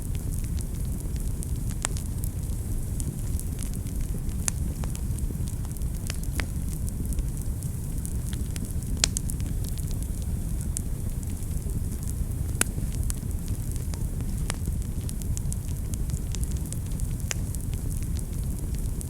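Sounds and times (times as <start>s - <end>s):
fire crackling and popping: 0.0s - 19.0s
fire flames rumbling: 0.0s - 19.0s.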